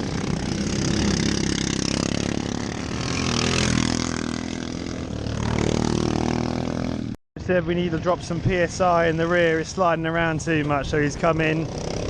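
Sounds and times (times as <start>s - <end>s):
racing lawn mower engines revving: 0.0s - 7.2s, 7.8s - 12.0s.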